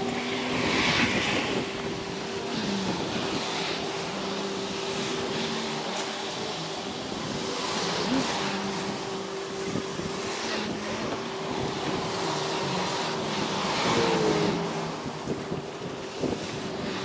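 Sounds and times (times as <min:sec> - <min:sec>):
cars passing: 0:00.0 - 0:17.0
steady engine hum: 0:00.0 - 0:17.0.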